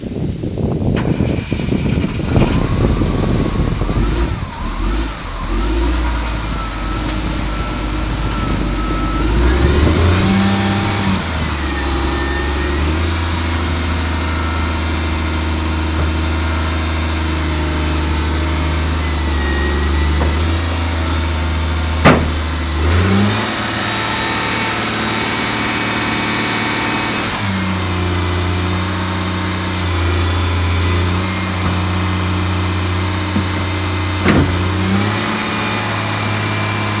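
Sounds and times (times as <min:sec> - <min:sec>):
diesel engine revving: 0:00.7 - 0:37.0.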